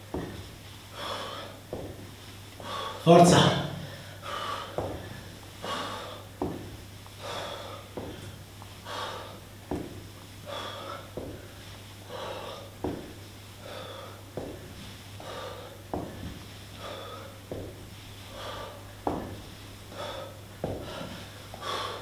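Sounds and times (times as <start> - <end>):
man breathing hard: 0.9 - 3.0, 3.7 - 22.0.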